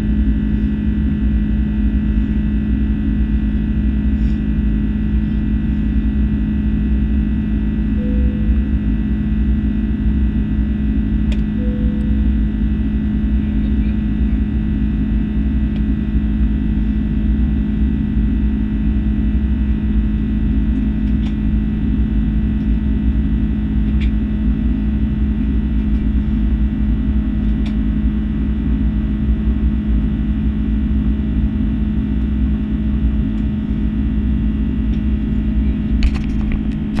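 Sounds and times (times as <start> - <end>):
aircraft cabin drone: 0.0 - 37.0.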